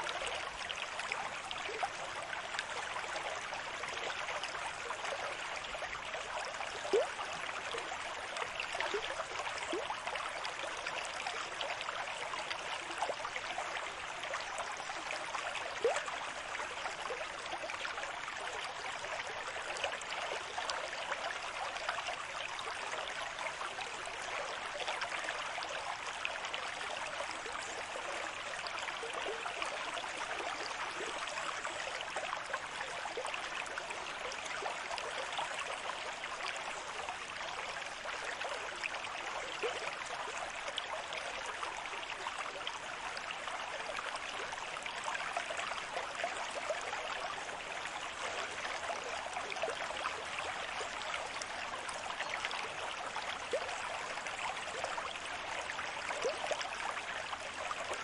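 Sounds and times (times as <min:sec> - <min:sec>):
rushing water: 0:04.4 - 0:58.0.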